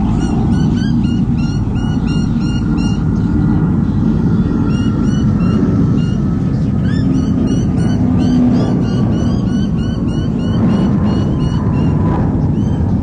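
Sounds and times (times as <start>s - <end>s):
eagle chicks cheeping: 0.0s - 13.0s
low rumble: 0.0s - 13.0s.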